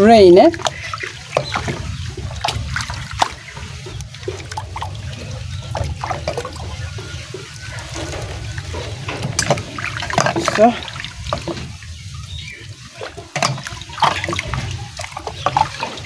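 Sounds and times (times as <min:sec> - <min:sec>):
water trickling and splashing: 0:00.0 - 0:16.0
wind rumble on microphone: 0:00.0 - 0:16.0.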